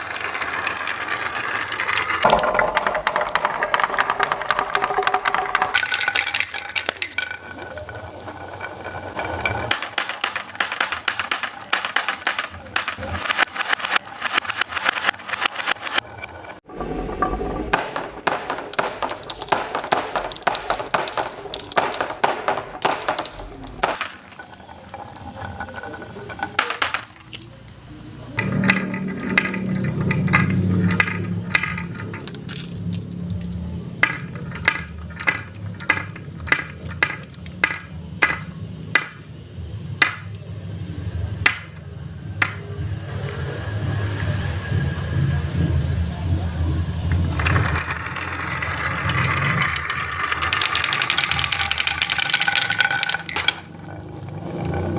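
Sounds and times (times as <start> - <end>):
marbles clicking down track: 0.0 - 40.6, 41.2 - 44.4, 46.6 - 54.9.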